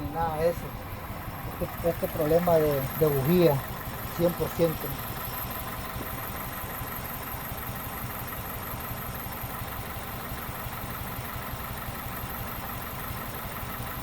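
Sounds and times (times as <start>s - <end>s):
car engine idling with misfire: 0.0s - 14.0s.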